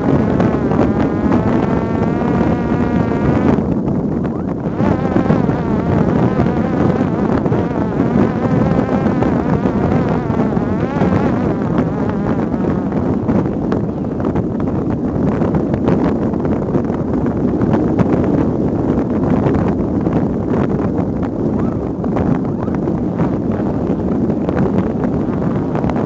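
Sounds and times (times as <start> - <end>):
drone motor and propeller buzzing: 0.0 - 26.0
wind rush on microphone: 0.0 - 26.0.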